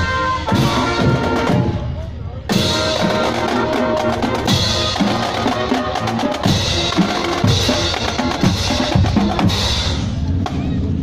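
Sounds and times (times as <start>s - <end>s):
brass horns holding notes: 0.0s - 9.6s
snare and bass drums marching: 0.0s - 10.7s.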